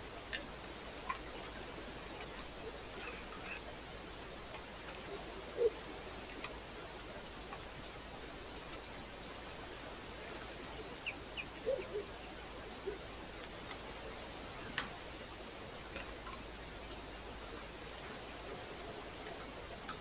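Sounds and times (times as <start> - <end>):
steady microphone hiss: 0.0 - 20.0.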